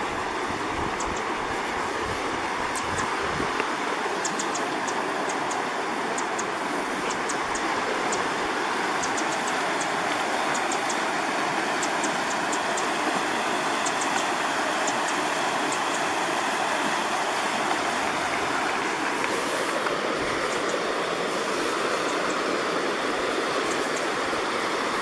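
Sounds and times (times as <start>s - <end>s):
creek white water rushing: 0.0s - 25.0s.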